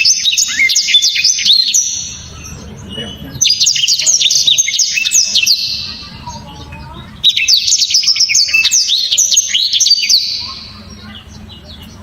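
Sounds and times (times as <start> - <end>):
canary singing chirps and trills: 0.0 - 12.0.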